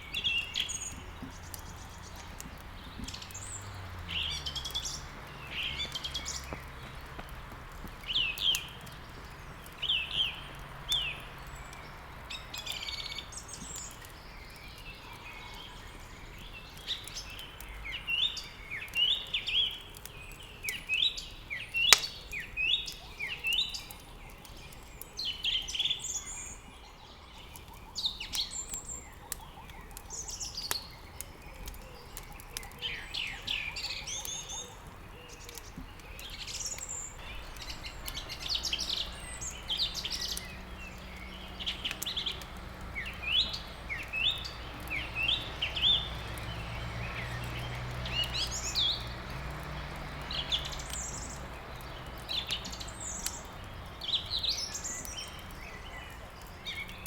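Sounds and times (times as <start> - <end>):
songbirds chirping and singing: 0.0 - 57.0
wood crackling in fireplace: 0.0 - 57.0.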